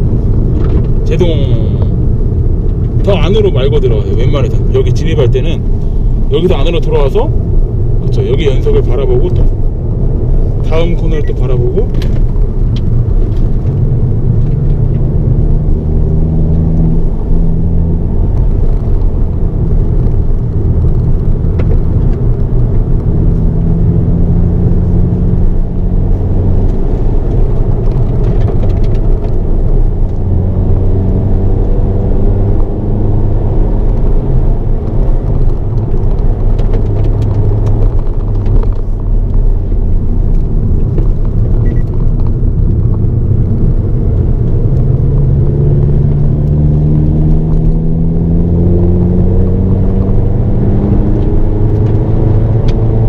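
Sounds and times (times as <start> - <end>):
car engine revving: 0.0 - 53.0
road rumble: 0.0 - 53.0.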